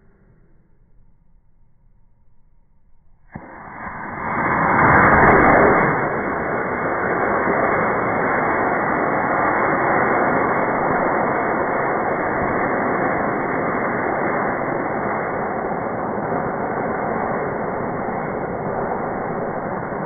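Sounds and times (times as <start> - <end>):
rocket motor rushing: 3.3 - 20.0.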